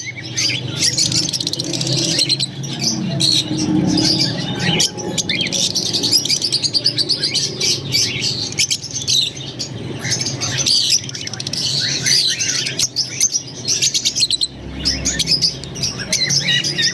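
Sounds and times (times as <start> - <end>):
lovebirds chattering: 0.0 - 16.9.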